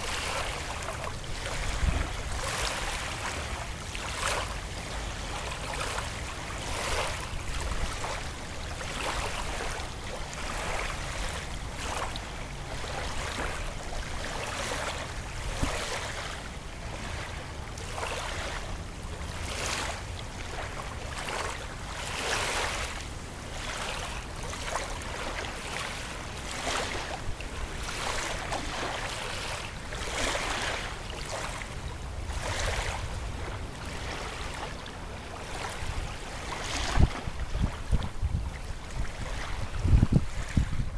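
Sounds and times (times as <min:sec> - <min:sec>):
wind rumble on microphone: 0:00.0 - 0:23.0, 0:25.0 - 0:40.9
waves lapping and splashing: 0:00.0 - 0:40.9.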